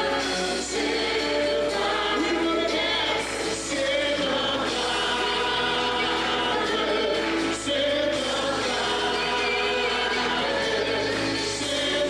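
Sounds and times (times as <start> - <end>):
mixed choir singing: 0.0 - 12.0.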